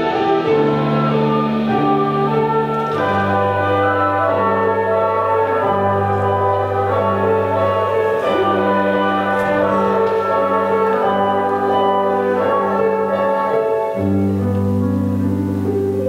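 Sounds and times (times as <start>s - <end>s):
orchestral and piano music: 0.0s - 16.0s.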